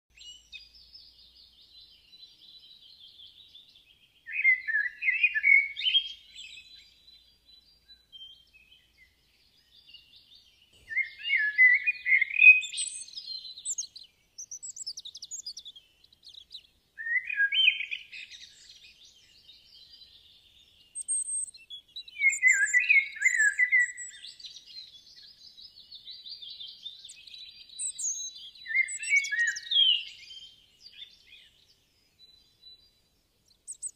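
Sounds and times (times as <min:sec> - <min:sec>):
small birds twittering: 0:00.1 - 0:33.9.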